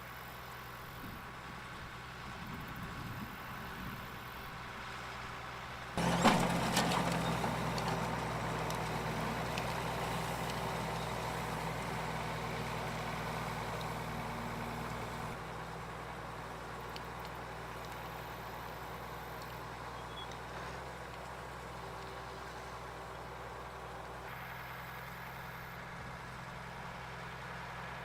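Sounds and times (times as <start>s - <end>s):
farm machinery engine running: 0.0s - 28.0s.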